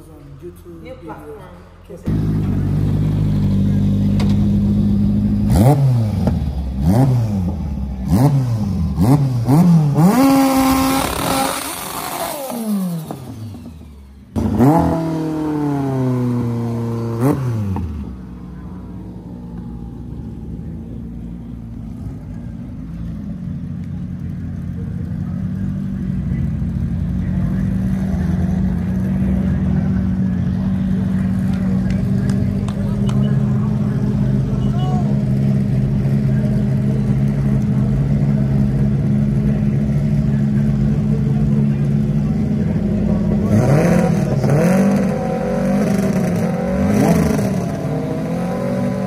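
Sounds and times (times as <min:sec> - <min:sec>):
race car engine revving: 0:02.0 - 0:49.0.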